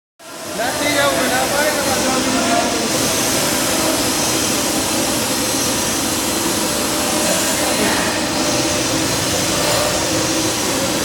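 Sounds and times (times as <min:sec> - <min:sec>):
machinery whirring: 0:00.2 - 0:11.0.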